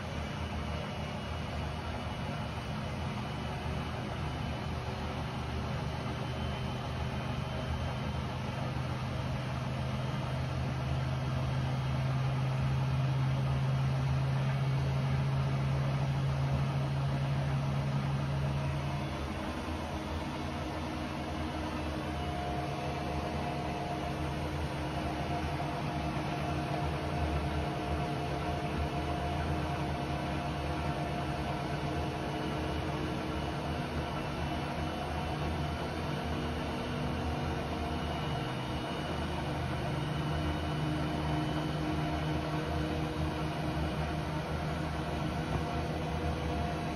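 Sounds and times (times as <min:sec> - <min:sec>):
thin high whine: 0:00.0 - 0:46.9
washing machine spinning: 0:00.0 - 0:46.9.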